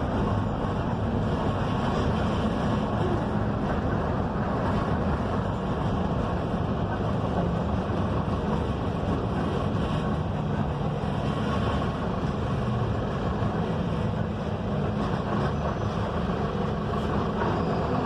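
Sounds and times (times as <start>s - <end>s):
bus engine running: 0.0s - 18.0s
road and tyre noise: 0.0s - 18.0s.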